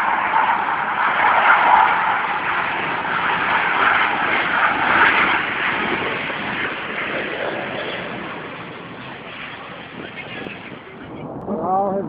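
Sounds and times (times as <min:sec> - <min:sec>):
jet aircraft roar overhead: 0:00.0 - 0:12.0.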